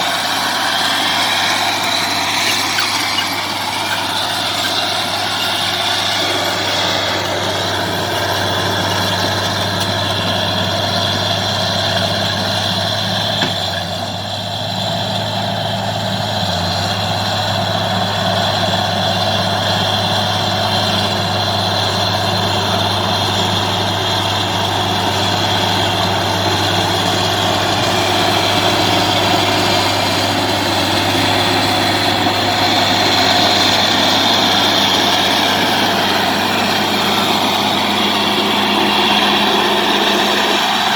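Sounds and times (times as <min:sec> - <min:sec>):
bulldozer diesel engine humming: 0:00.0 - 0:40.9.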